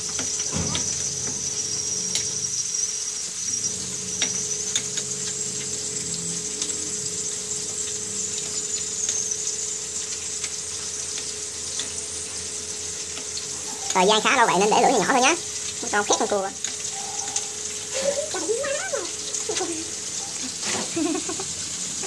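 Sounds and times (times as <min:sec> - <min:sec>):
crab frying in oil: 0:00.0 - 0:22.0.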